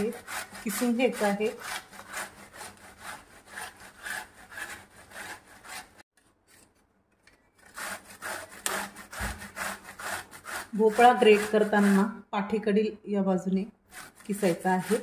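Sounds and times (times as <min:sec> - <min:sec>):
gourd rasping on metal grater: 0:00.0 - 0:06.7, 0:07.6 - 0:12.2, 0:13.9 - 0:15.0.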